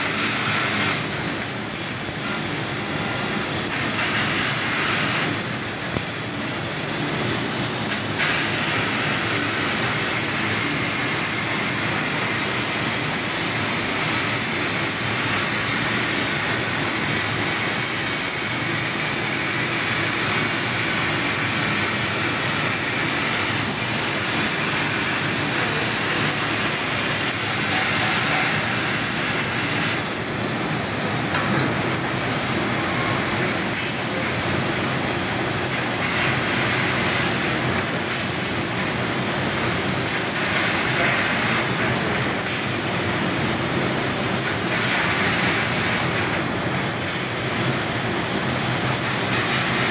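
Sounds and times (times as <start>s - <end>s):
laser cutter hissing: 0.0s - 49.9s.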